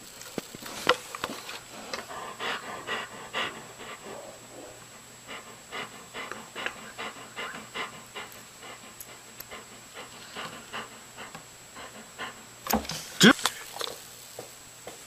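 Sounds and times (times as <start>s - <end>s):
dog panting: 0.6s - 13.9s.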